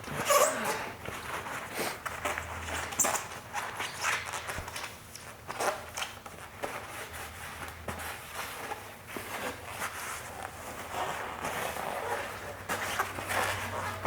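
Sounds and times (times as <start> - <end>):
towel wiping plastic: 0.2 - 14.0.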